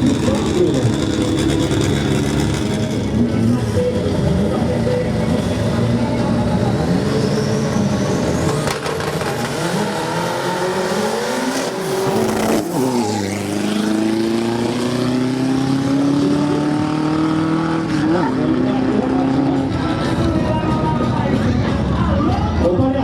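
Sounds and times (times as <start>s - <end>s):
racing car engines revving: 0.0s - 22.2s.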